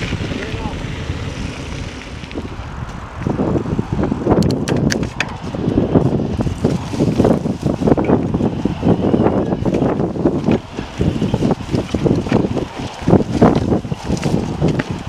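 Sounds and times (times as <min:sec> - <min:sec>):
bike rumbling and rattling on gravel: 0:00.0 - 0:15.0
wind buffeting microphone: 0:00.0 - 0:15.0.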